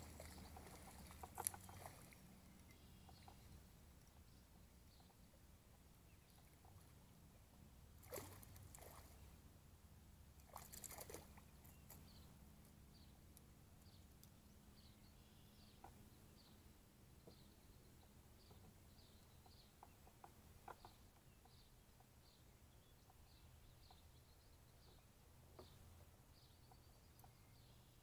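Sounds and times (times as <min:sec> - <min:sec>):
faint bird chirping: 0:00.0 - 0:09.5, 0:10.4 - 0:28.0
low steady hum: 0:00.0 - 0:28.0.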